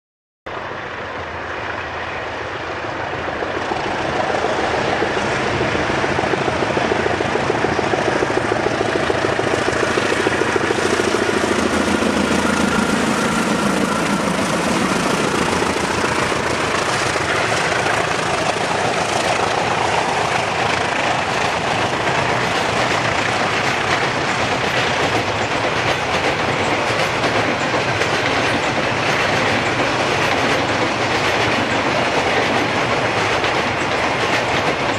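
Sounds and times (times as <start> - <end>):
diesel locomotives passing: 0.5 - 34.9
freight wagons rolling on rails: 3.3 - 34.9.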